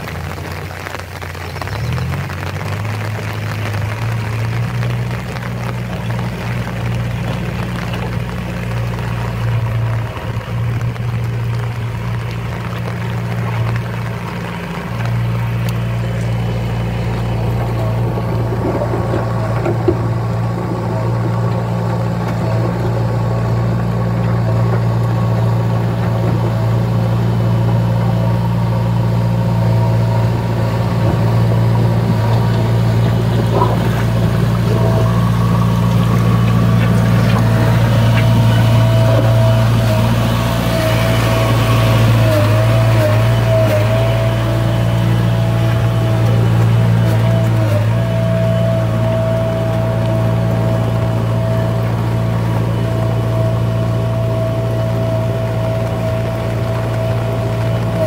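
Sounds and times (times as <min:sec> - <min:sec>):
backhoe diesel engine hum: 0:00.0 - 0:58.0.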